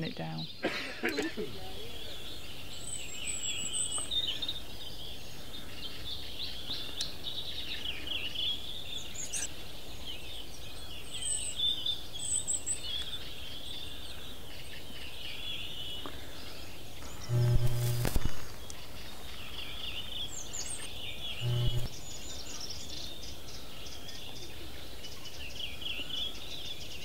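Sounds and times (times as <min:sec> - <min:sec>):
outdoor background hiss: 0:00.0 - 0:13.4, 0:14.0 - 0:25.0
birds chirping and twittering: 0:00.0 - 0:27.0.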